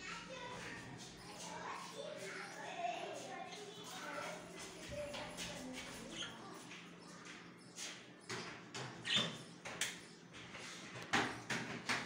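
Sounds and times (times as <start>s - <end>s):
caged birds tapping and scratching: 0.0s - 12.0s.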